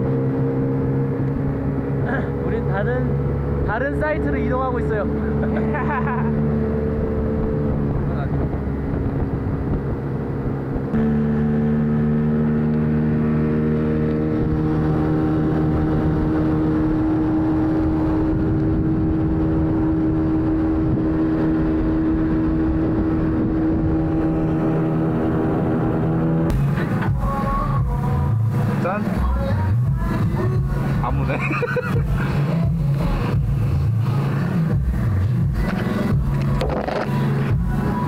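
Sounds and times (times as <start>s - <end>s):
outboard motor droning: 0.0s - 38.0s.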